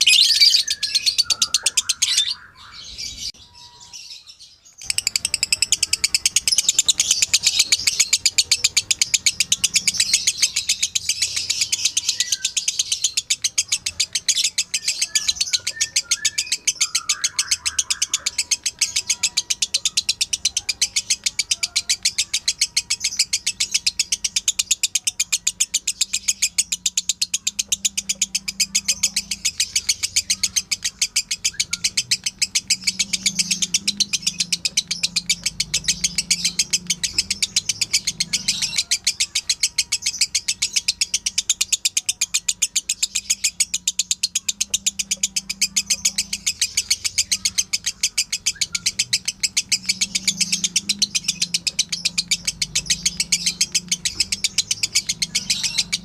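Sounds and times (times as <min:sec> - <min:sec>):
lovebird chattering: 0:00.0 - 0:03.9, 0:04.8 - 0:56.0.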